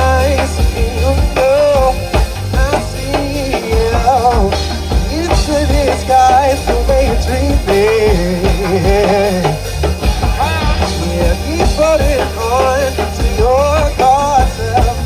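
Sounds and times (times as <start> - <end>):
bass guitar: 0.0 - 15.0
drum kit beat: 0.0 - 15.0
wavering melody line: 0.0 - 15.0.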